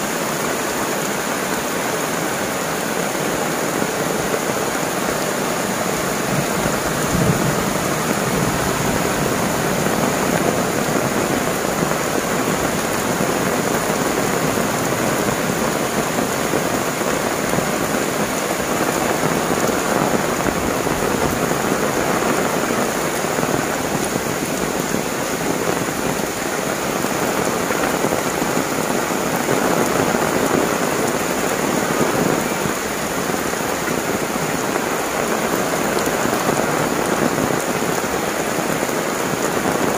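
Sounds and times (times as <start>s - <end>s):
heavy rain on leaves and roof: 0.0s - 39.9s.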